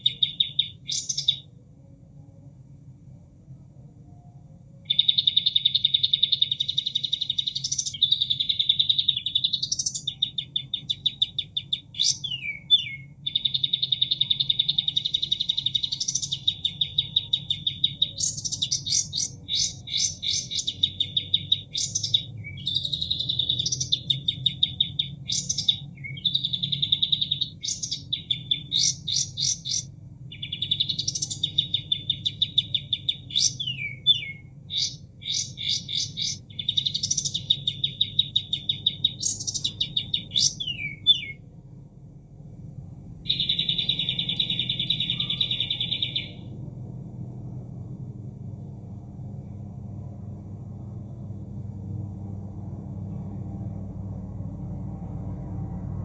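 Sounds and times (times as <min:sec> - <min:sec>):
recorded bird song: 0:00.0 - 0:41.7, 0:42.7 - 0:56.0.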